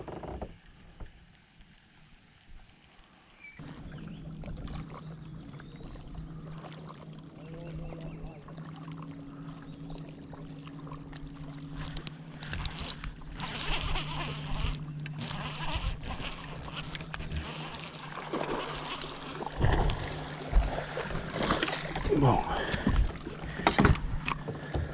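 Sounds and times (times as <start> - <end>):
steady low hum: 0.6 - 24.9.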